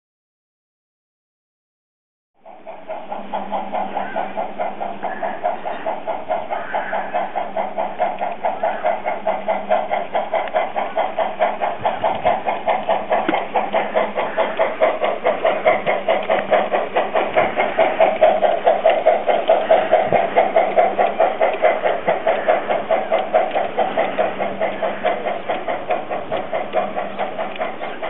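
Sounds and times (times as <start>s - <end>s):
model steam locomotive chuffing: 2.4s - 28.0s.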